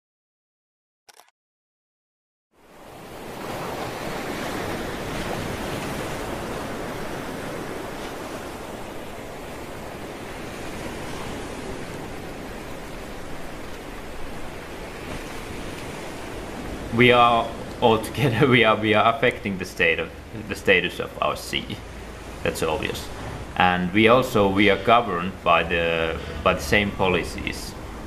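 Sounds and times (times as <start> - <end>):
wind and sea rushing: 2.5 - 28.0.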